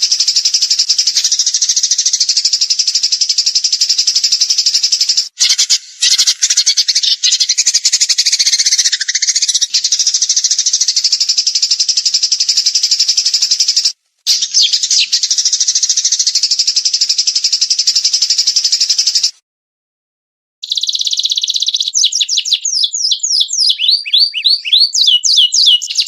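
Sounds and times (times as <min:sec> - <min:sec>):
songbird rapid trill: 0:00.0 - 0:19.3, 0:20.6 - 0:26.0.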